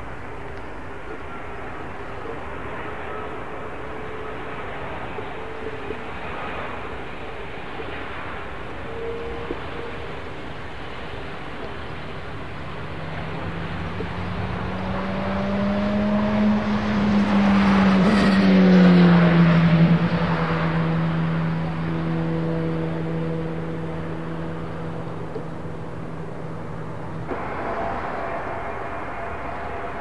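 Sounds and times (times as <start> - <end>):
jet engines roaring: 1.4 - 30.0.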